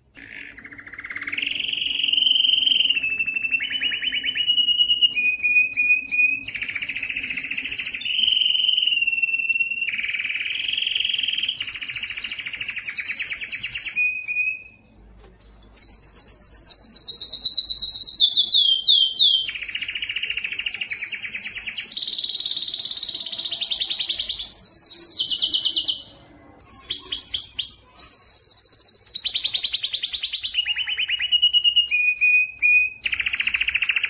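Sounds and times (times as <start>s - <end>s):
canary singing fast trills: 0.2s - 14.8s, 15.4s - 34.0s.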